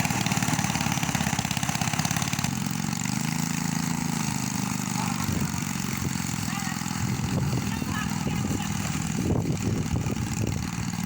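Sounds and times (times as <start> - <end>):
small aircraft engine running: 0.0 - 11.0.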